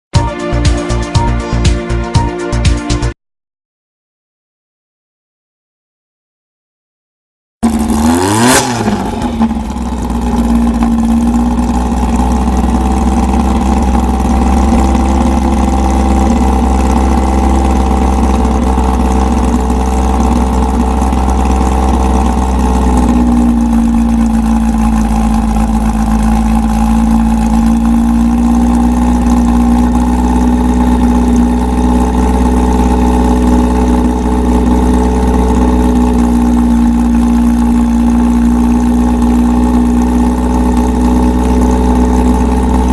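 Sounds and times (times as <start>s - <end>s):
car engine idling: 7.6s - 42.9s.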